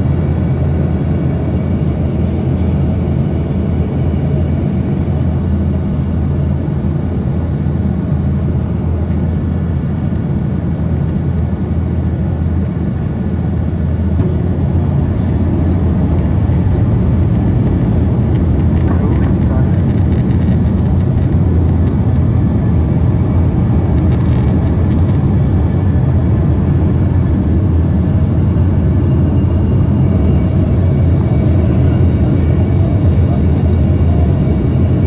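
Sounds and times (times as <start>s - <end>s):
airliner engines rumbling: 0.0s - 35.0s.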